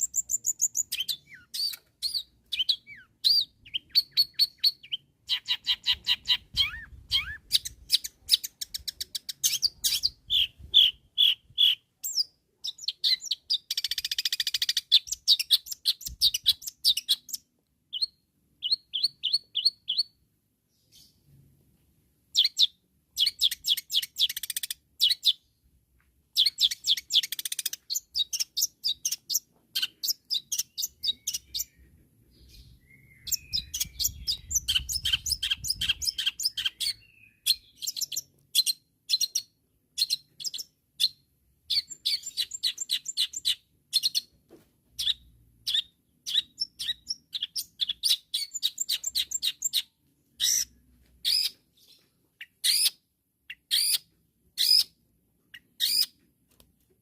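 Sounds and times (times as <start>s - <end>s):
bird singing sharp high chirps: 0.0s - 20.2s, 26.4s - 44.3s, 45.0s - 54.0s, 54.6s - 55.0s, 55.8s - 56.1s.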